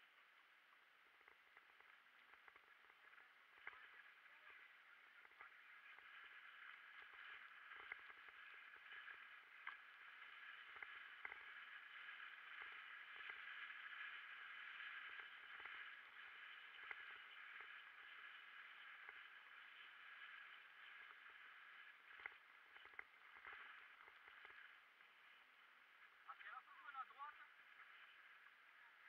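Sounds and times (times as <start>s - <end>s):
mountain bike rolling on dirt: 0.0s - 26.3s.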